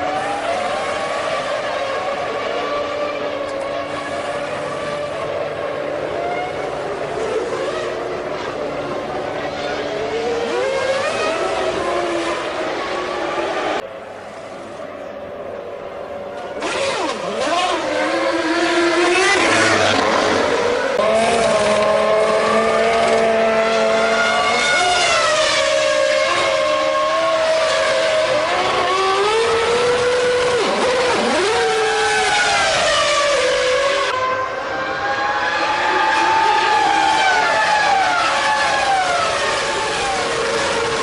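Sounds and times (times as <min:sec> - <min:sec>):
racing car engine revving: 0:00.0 - 0:14.8, 0:16.4 - 0:41.0.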